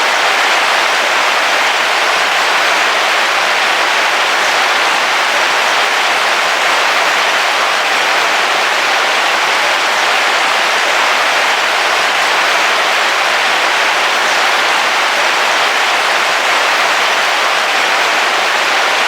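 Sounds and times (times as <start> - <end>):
heavy rain on a car roof: 0.0 - 19.0.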